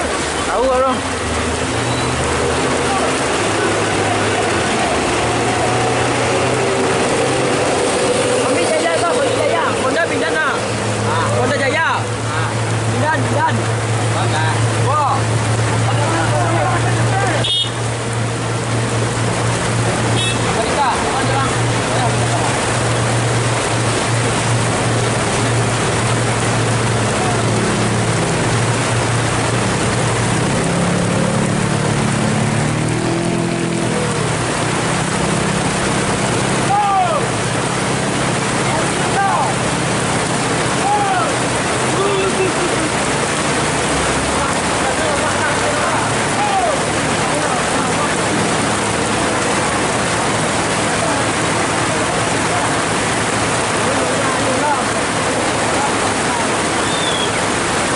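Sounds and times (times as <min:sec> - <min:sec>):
floodwater rushing: 0:00.0 - 0:57.9
heavy rain pouring: 0:00.0 - 0:57.9
passing vehicle engines: 0:00.0 - 0:57.9.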